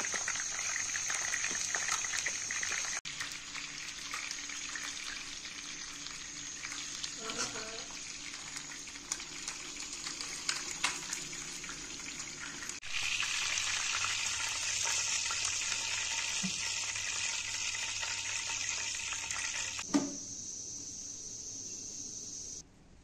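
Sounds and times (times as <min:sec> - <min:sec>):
oil sizzling in a frying pan: 0:00.0 - 0:22.6.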